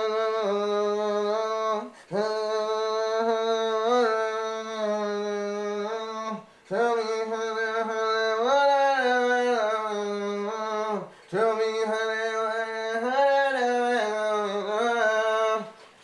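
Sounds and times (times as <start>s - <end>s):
man singing wordless melody: 0.0s - 16.0s.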